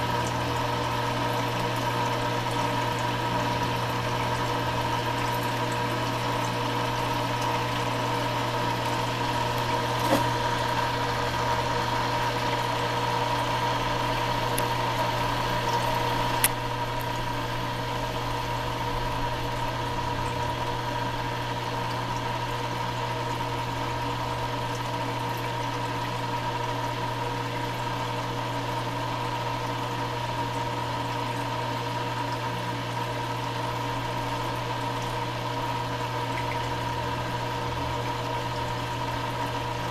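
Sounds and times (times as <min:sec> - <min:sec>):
pump humming: 0:00.0 - 0:39.9.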